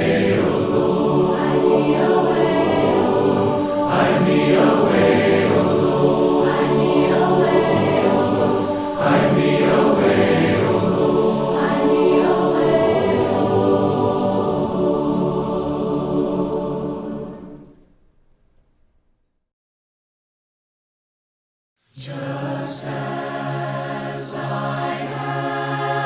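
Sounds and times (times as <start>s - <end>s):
choir singing a hymn: 0.0s - 17.7s, 22.0s - 26.0s.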